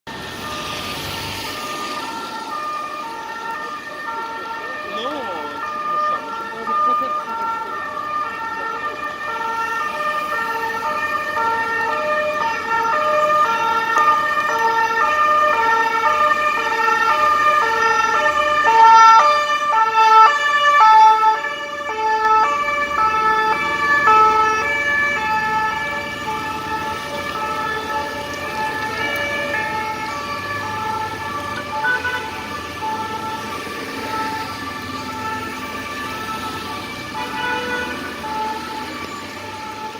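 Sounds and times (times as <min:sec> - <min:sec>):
police two-tone sirens: 0:00.1 - 0:39.9.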